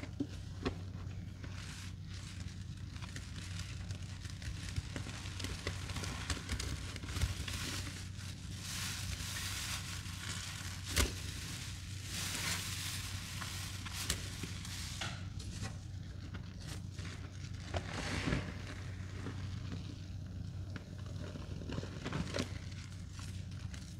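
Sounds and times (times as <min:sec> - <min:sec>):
steady low hum: 0:00.0 - 0:23.9
wet sponges squishing and crunching: 0:00.0 - 0:23.9.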